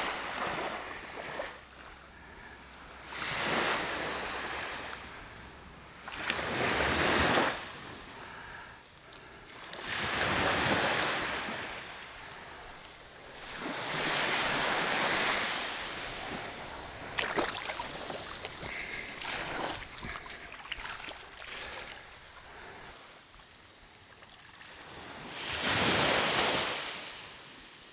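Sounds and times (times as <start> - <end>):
waves washing up a beach: 0.0 - 27.9.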